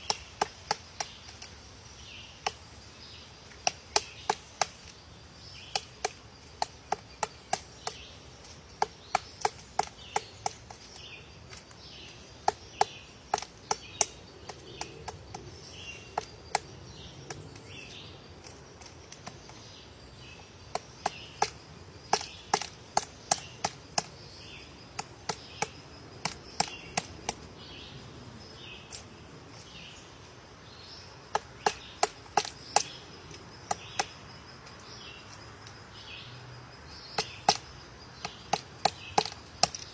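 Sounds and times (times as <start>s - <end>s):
woodpecker pecking at wood: 0.0s - 17.8s, 18.4s - 27.5s, 31.2s - 35.8s, 36.9s - 39.9s
bird chirping: 0.0s - 39.9s.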